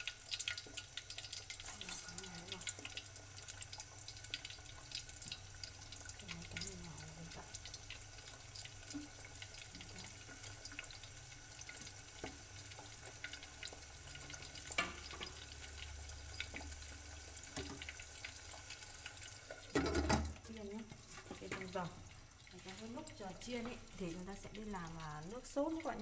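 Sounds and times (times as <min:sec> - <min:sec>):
chicken wings deep-frying in oil: 0:00.0 - 0:26.0.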